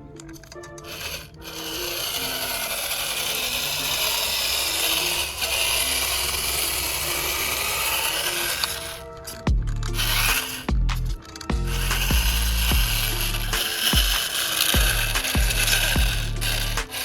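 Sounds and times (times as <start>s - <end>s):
power tool rasping: 0.0s - 17.0s.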